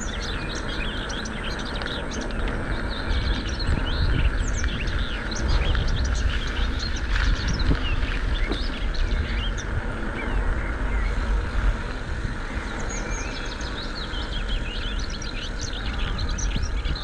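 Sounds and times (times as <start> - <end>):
bicycle tyres rolling: 0.0 - 17.0
small birds chirping: 0.0 - 17.0.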